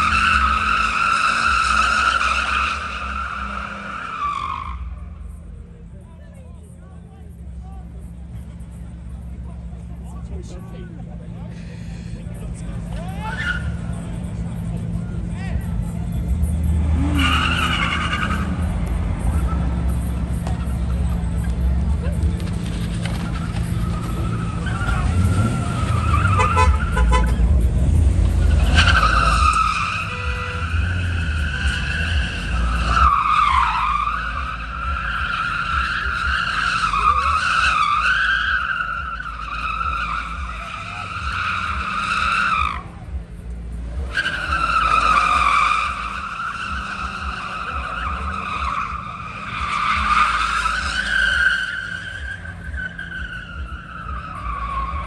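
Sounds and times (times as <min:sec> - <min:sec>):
tyres squealing: 0:00.0 - 0:05.2, 0:11.5 - 0:43.2, 0:43.8 - 0:55.0
car engine rumble: 0:00.0 - 0:55.0.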